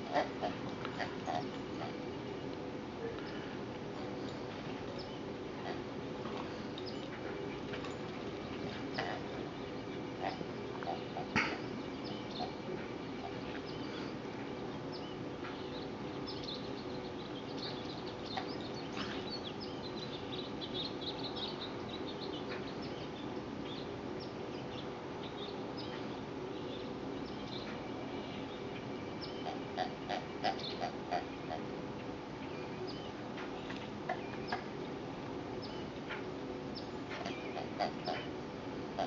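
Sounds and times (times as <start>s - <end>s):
low outdoor hum: 0.0s - 39.0s.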